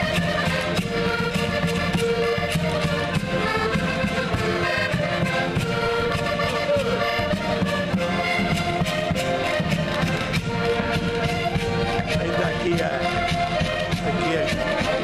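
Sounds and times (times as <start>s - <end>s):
button accordions playing a tune: 0.0s - 15.0s.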